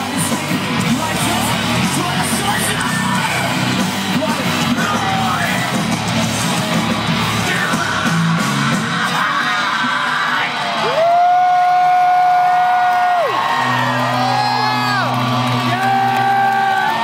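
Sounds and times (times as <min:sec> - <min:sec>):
shouted vocals: 0:00.0 - 0:05.8, 0:07.3 - 0:17.0
electric guitar: 0:00.0 - 0:17.0
live rock band: 0:00.0 - 0:17.0.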